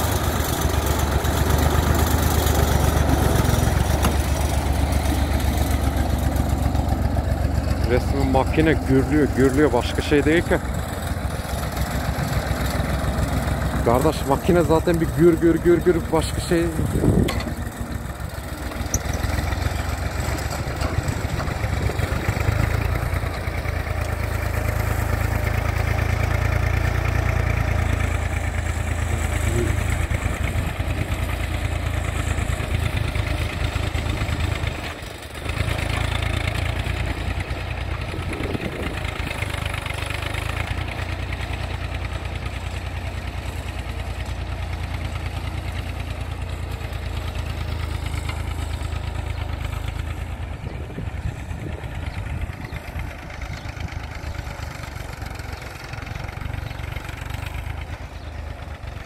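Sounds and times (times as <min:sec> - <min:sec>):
tractor diesel engine rumbling: 0:00.0 - 0:59.0.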